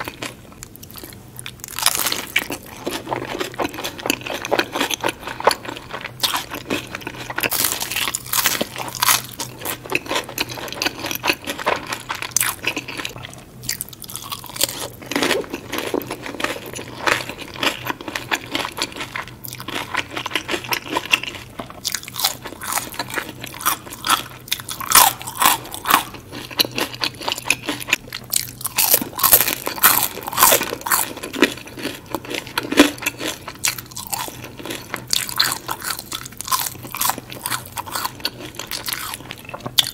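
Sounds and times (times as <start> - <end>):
chewing crispy fried food: 0.0 - 39.9.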